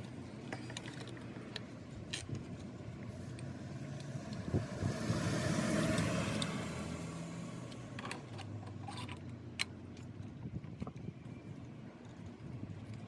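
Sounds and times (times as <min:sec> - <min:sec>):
motor vehicle noise: 0:00.0 - 0:13.0.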